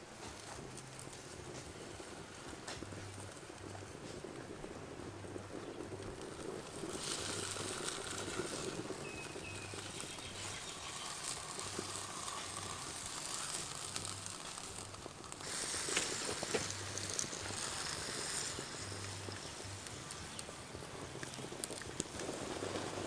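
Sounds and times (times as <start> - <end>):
meat sizzling on hot stone: 0.0 - 23.0
sharp crackles: 0.0 - 23.0.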